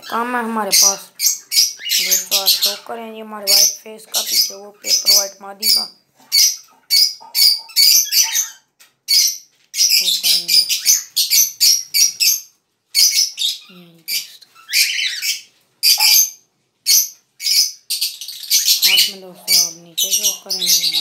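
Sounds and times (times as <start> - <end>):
parrots chirping and calling: 0.0 - 21.0.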